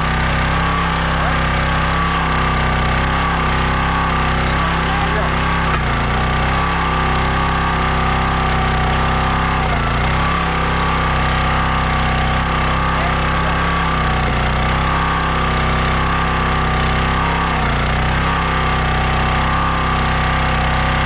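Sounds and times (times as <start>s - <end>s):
log splitter engine running: 0.0s - 21.0s.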